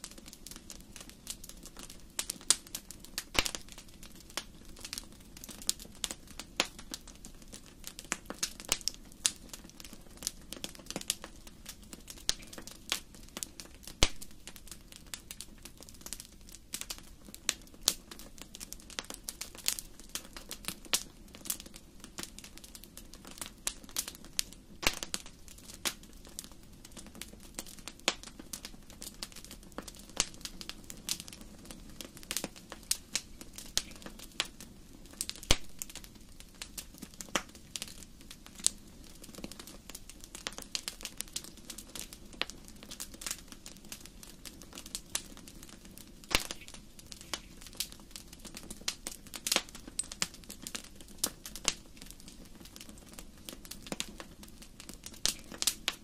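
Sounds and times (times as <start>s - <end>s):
low steady fire hiss: 0.0s - 56.0s
wood fire crackling and popping: 0.0s - 56.0s.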